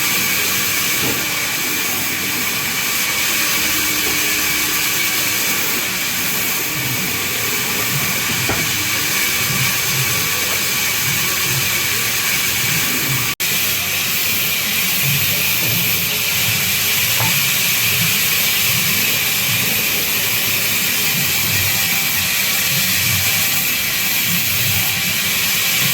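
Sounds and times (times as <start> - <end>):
band saw cutting wood: 0.0 - 25.9.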